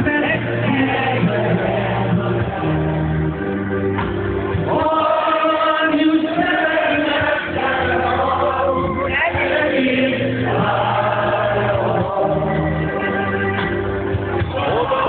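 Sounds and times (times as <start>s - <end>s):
live concert music: 0.0s - 15.0s.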